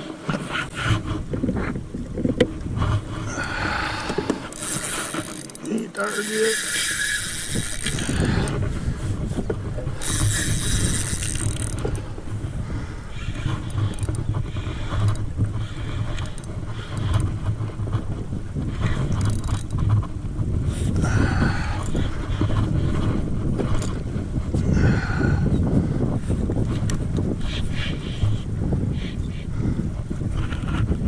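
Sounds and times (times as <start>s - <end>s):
water noise: 0.0s - 31.0s
wind buffeting microphone: 0.0s - 31.0s.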